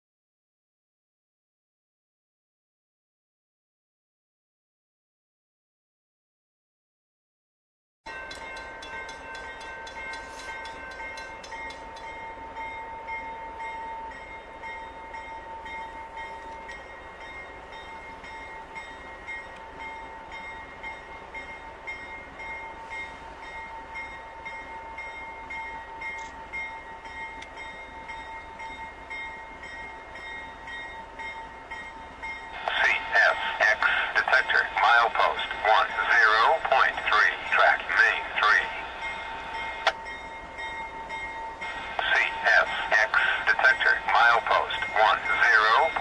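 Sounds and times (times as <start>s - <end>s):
railroad crossing bell ringing: 8.1s - 46.0s.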